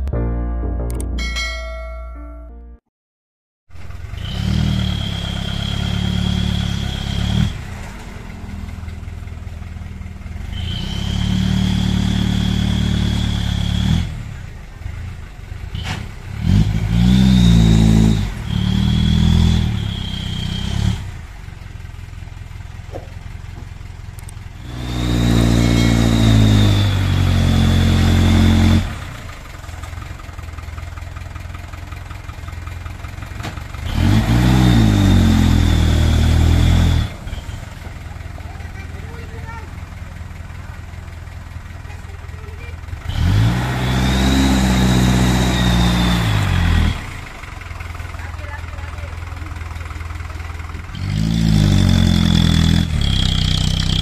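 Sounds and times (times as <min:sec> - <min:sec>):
diesel truck engine revving: 0:03.7 - 0:54.0.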